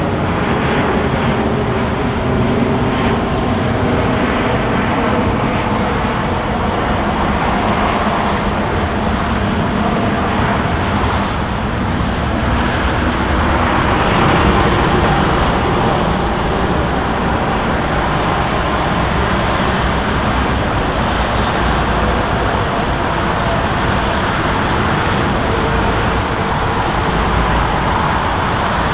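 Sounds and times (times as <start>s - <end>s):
jet engines roaring: 0.0s - 28.9s.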